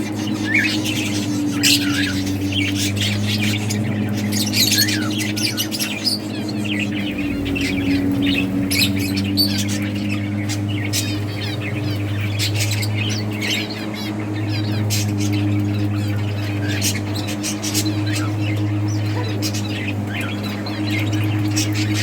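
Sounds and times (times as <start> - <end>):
budgerigars chirping and squawking: 0.0 - 22.0
low hum: 0.0 - 22.0.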